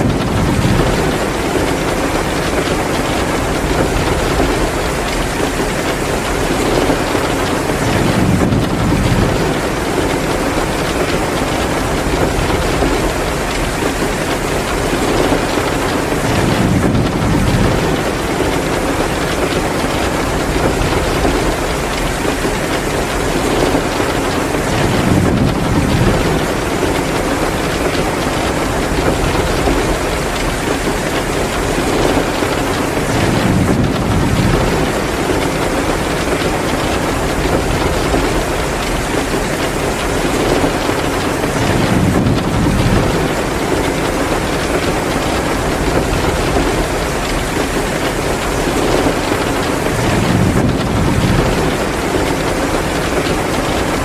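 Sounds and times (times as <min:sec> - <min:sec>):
crackling wood fire: 0:00.0 - 0:54.0
heavy rain pouring: 0:00.0 - 0:54.0.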